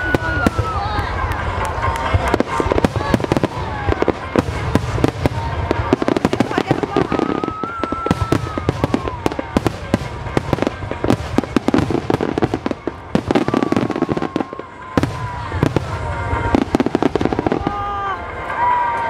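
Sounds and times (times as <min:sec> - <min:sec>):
fireworks bursting: 0:00.0 - 0:18.6.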